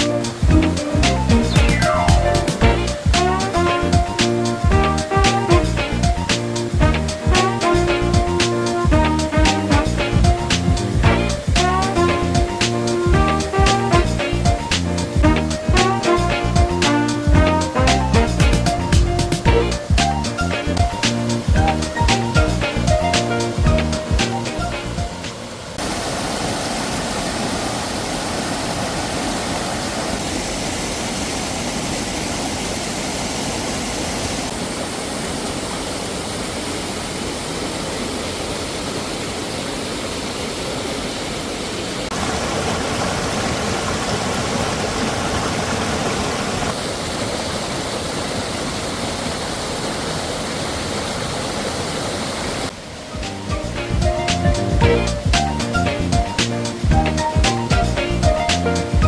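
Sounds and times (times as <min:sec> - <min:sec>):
rushing stream water: 0:00.0 - 0:59.0.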